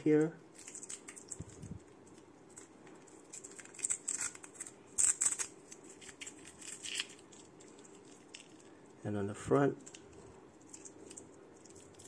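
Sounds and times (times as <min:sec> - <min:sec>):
plastic film crinkling: 0:00.5 - 0:09.0, 0:09.7 - 0:12.0.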